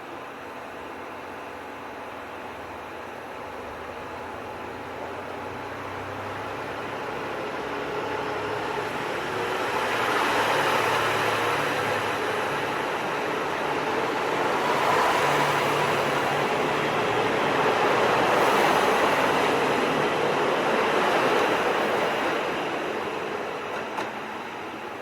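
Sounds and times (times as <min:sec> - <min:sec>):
diesel train running on rails: 0:00.0 - 0:25.0.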